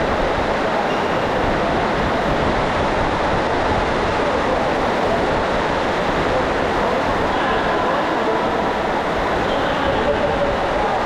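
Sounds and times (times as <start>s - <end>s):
heavy rain on roof: 0.0s - 11.0s.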